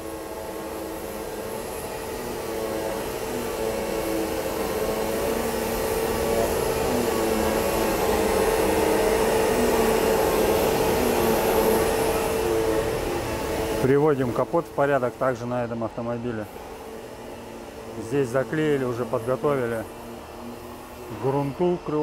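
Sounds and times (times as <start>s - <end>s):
orbital sander whining: 0.0s - 22.0s.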